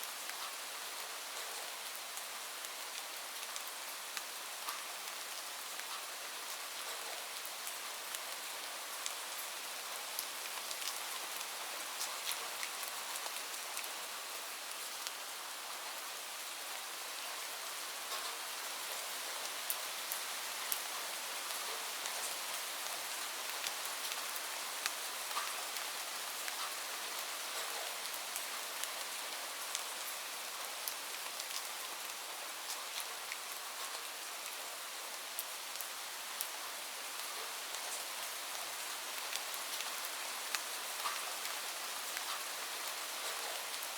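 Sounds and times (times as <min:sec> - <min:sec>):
raindrops ticking on a surface: 0:00.0 - 0:43.9.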